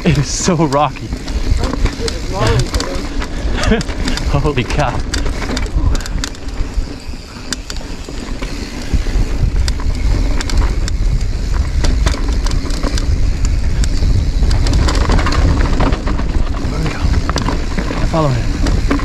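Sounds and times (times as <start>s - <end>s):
bike clacking and rattling: 0.0s - 19.0s
bike tyres over rock: 0.0s - 19.0s
wind rumble on microphone: 0.0s - 19.0s.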